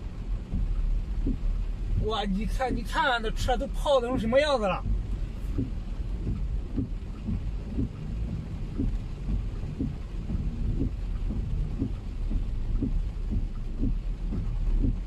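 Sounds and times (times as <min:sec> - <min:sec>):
heavy rain on a car: 0:00.0 - 0:15.0.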